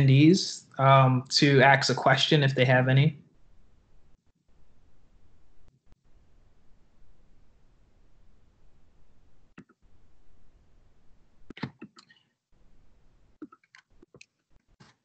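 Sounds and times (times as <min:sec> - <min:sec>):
faint steady hiss: 0:00.0 - 0:13.5.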